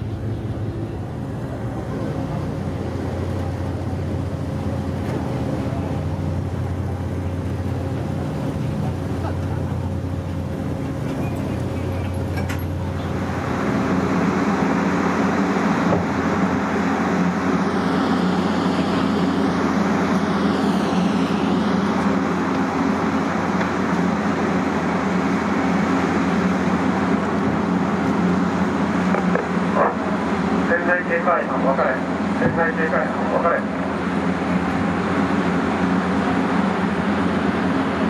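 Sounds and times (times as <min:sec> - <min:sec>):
boat engines running: 0:00.0 - 0:38.0.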